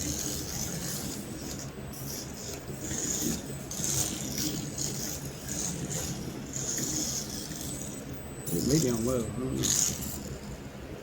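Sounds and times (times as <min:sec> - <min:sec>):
toy car electric motor whirring: 0:00.0 - 0:10.6.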